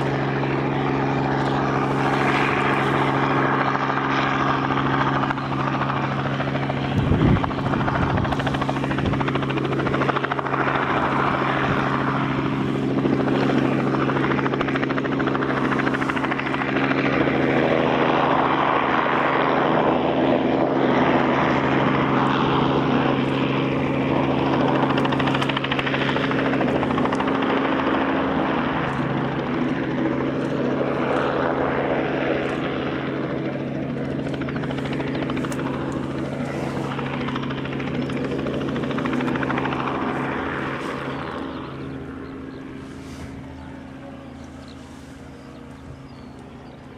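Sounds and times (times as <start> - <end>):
jet engines humming: 0.0 - 46.9.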